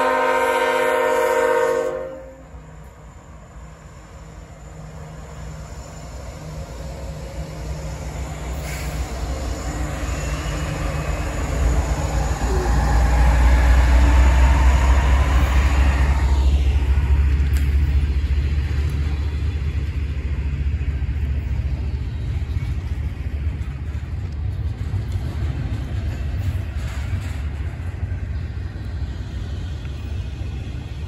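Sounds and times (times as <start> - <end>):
diesel locomotive engine rumble: 0.0 - 31.0.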